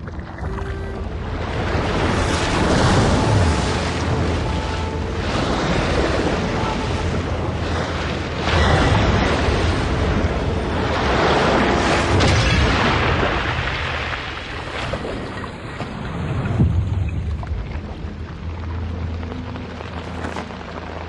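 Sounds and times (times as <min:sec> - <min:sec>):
rumbling blast: 0:00.6 - 0:20.0.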